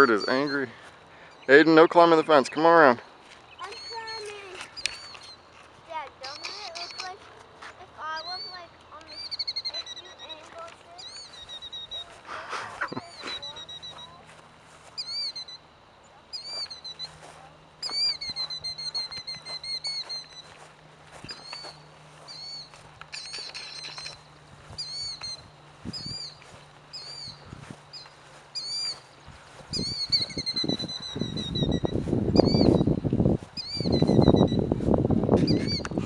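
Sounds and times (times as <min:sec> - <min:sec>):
bird alarm calls: 0:00.0 - 0:07.2, 0:08.0 - 0:34.7, 0:35.3 - 0:36.0.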